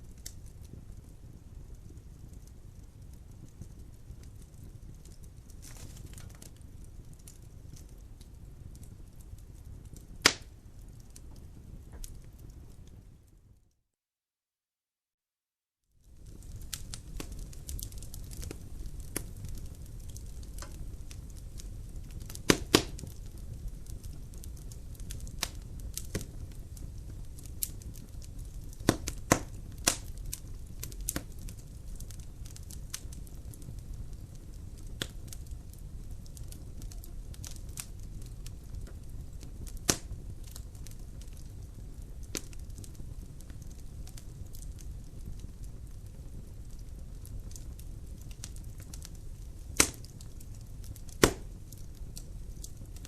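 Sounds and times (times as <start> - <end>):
fire crackling and popping: 0.0 - 13.6, 16.0 - 53.0
low rumble of fire: 0.0 - 13.7, 15.9 - 53.0.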